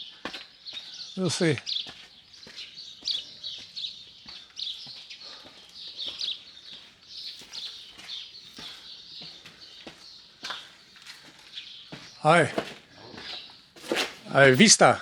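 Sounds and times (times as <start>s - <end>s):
small birds chirping and twittering: 0.0s - 15.0s.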